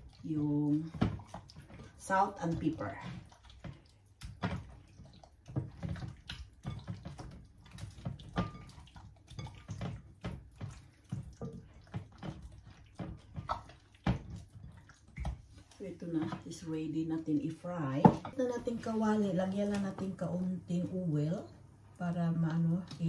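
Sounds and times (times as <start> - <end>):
wet squelches of hands mixing meat: 0.0 - 23.0.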